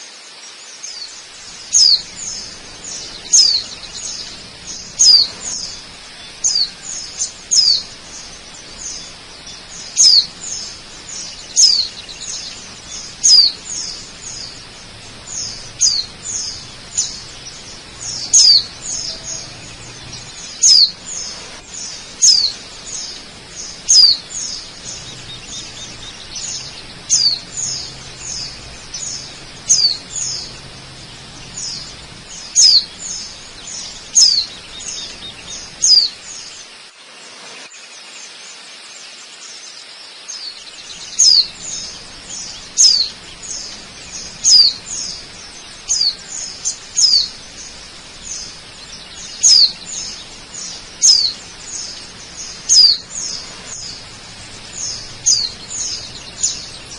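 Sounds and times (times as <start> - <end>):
faint steady hiss: 0.0 - 56.9
bird chirping: 0.3 - 36.9, 39.0 - 56.9.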